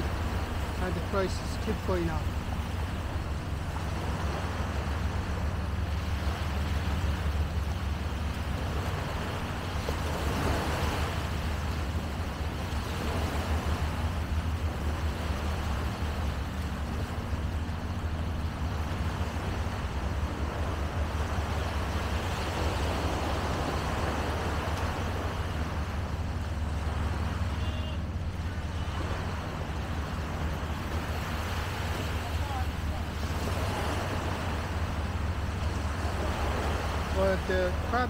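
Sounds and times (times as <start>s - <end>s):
constant low rumble: 0.0s - 38.0s.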